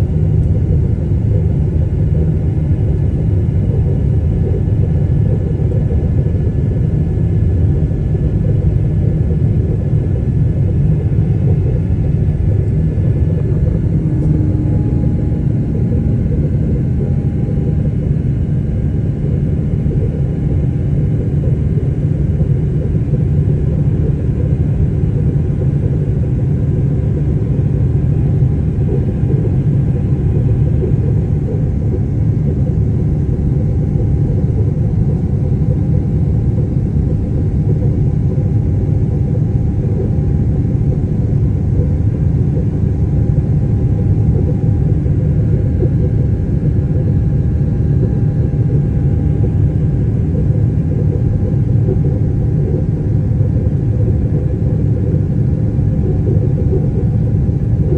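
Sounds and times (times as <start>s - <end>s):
jet cabin low rumble: 0.0s - 57.9s.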